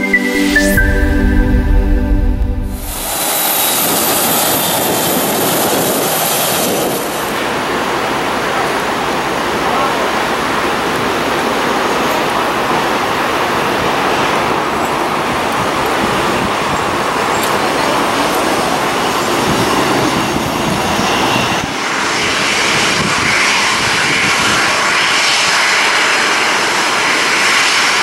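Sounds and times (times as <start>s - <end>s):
jet engine whine: 0.0s - 28.0s
turboprop rushing noise: 0.0s - 28.0s.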